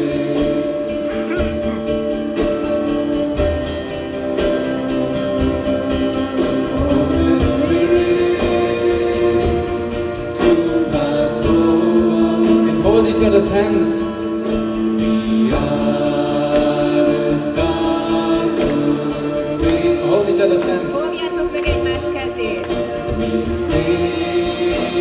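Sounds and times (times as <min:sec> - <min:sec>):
acoustic band chords: 0:00.0 - 0:25.0
person singing: 0:00.0 - 0:25.0
steady drum beat: 0:00.0 - 0:25.0.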